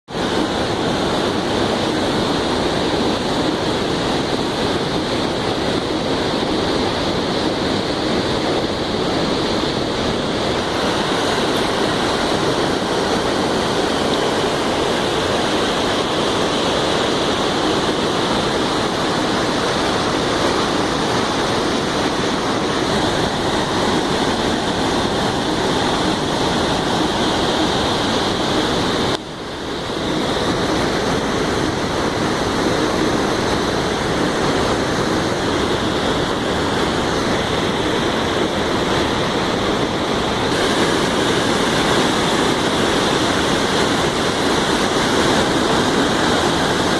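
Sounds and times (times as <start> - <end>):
waterfall rushing: 0.1 - 46.9.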